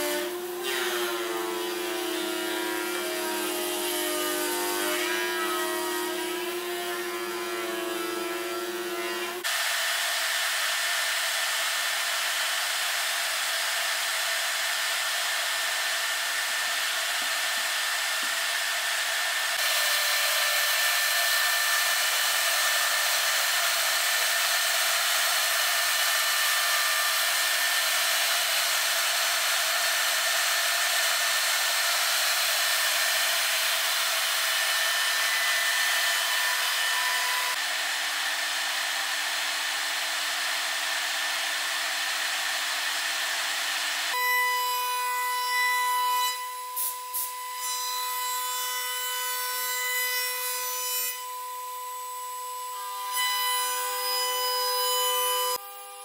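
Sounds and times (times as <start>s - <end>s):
router cutting wood: 0.0s - 56.0s.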